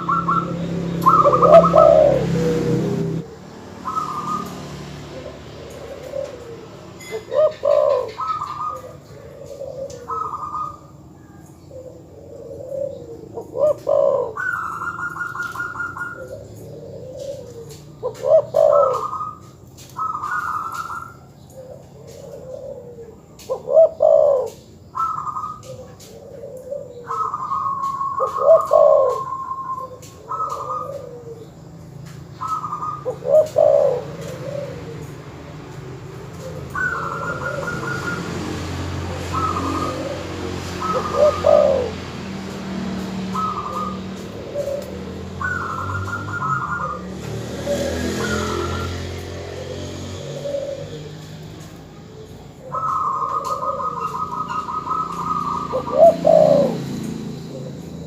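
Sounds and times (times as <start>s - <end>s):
doves cooing and trilling: 0.0s - 58.0s.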